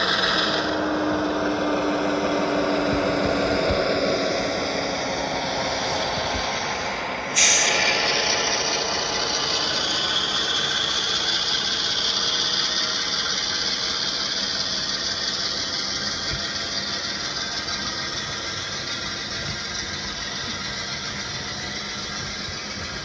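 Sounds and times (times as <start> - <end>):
model train rolling on track: 0.0 - 23.0
loud hiss: 4.2 - 23.0.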